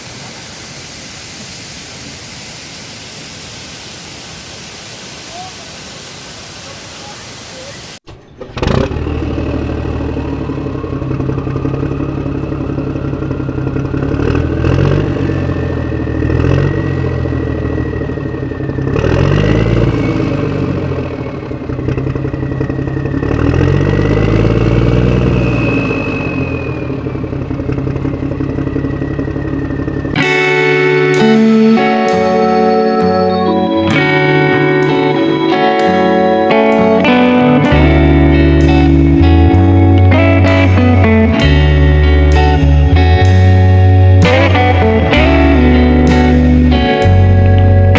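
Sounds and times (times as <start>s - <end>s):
thin whine: 7.0s - 47.9s
motorcycle engine revving: 8.0s - 47.9s.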